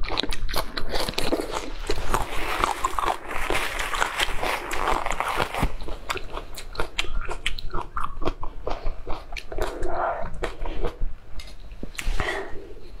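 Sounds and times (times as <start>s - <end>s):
person chewing with wet smacking: 0.0s - 13.0s.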